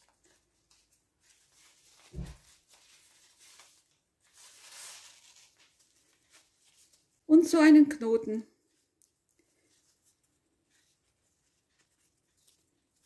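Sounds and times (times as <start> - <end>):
ribbon rustling: 0.0 - 7.4, 8.5 - 13.0.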